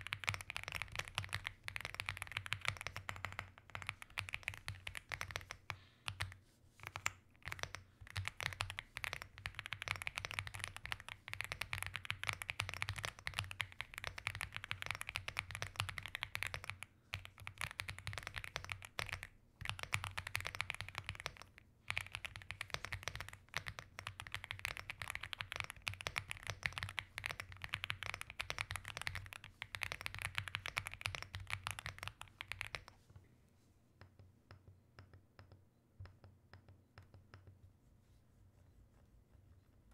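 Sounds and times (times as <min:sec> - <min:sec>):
mechanical keyboard typing: 0:00.0 - 0:32.9.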